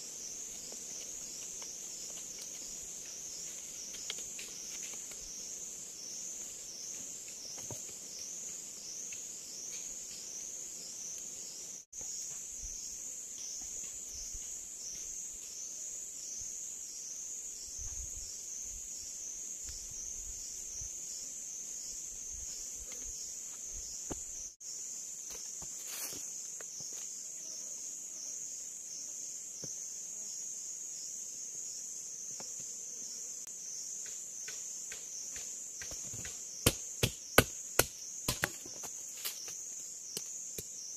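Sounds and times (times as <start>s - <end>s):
high insect buzz: 0.0s - 40.9s.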